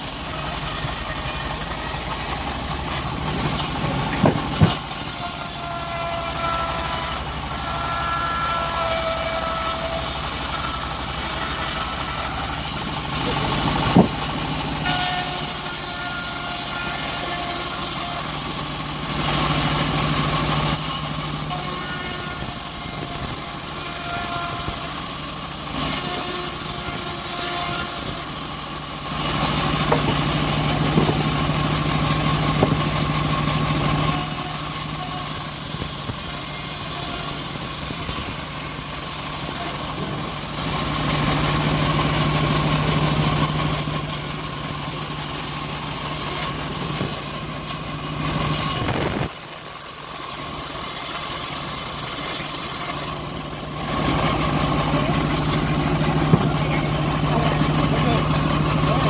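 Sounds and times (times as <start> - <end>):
bandsaw mill cutting wood: 0.0 - 59.0.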